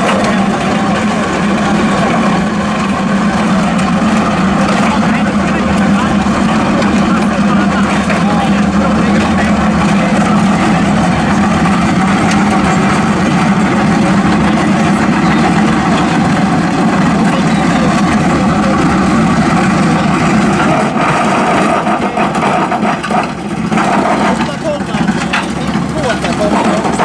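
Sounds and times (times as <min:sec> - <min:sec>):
diesel engine and hydraulics: 0:00.0 - 0:27.0
trencher cutting through soil: 0:03.1 - 0:27.0.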